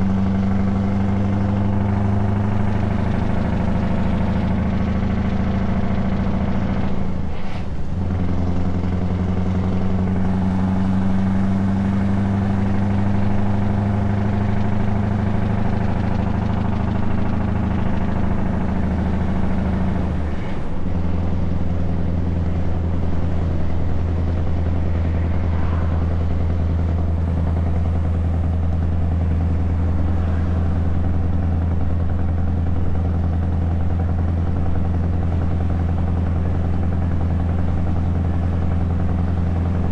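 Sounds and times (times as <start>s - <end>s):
truck engine through open exhaust: 0.0s - 39.9s.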